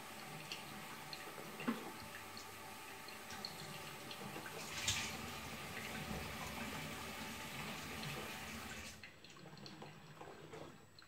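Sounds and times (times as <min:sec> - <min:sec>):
coffee maker bubbling and dripping: 0:00.0 - 0:11.0.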